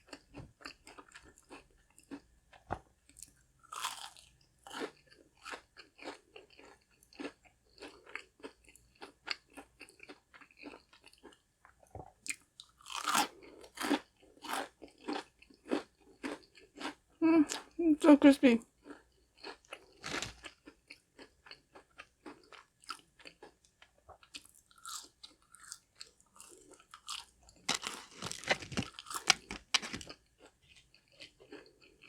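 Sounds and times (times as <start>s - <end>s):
crunchy chewing of fried chicken: 0.0s - 17.7s, 18.6s - 32.0s.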